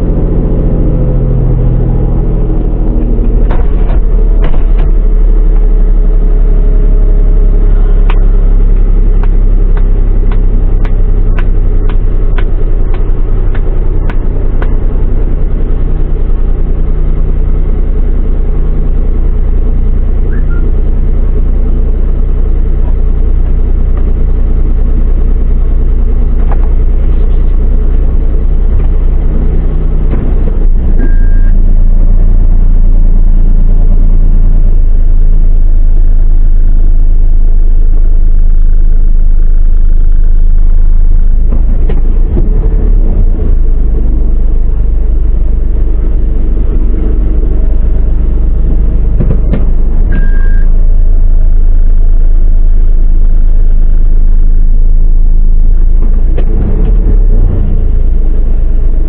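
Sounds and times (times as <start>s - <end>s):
car engine rumble inside cabin: 0.0s - 59.0s.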